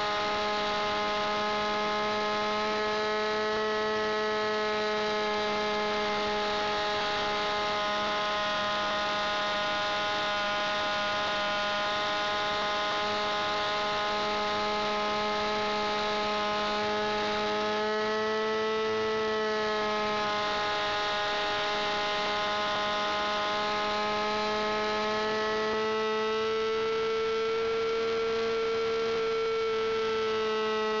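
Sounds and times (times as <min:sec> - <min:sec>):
model plane engine whine: 0:00.0 - 0:31.0.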